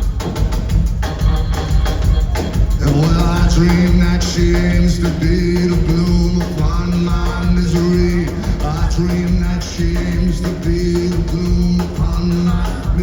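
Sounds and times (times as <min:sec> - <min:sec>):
bass groove: 0:00.0 - 0:13.0
drum beat: 0:00.0 - 0:13.0.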